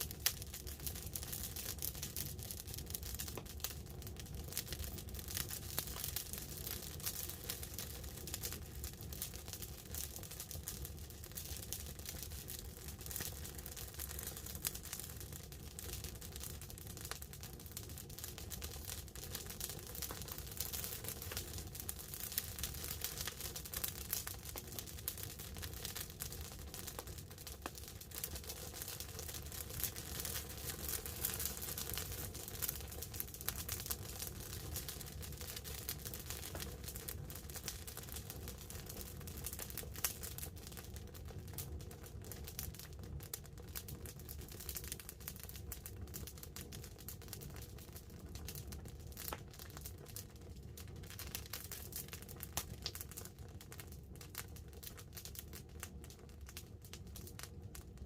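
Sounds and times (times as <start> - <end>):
campfire crackling and popping: 0.0 - 58.0
light rain on a tarp: 0.0 - 58.0.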